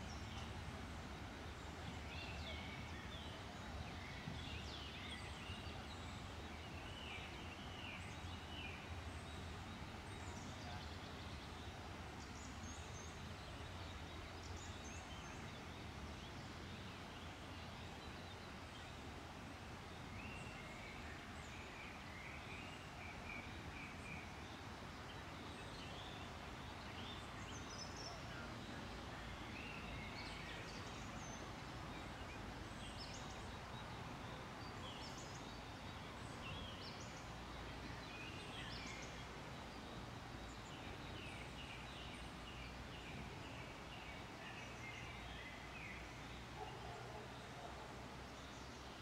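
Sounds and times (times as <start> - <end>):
songbirds chirping and trilling: 0.0 - 49.0.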